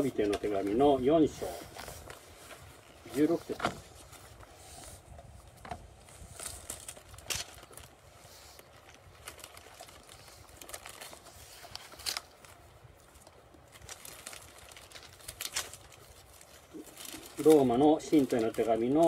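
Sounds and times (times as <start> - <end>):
thin pages rustling: 0.0 - 19.0.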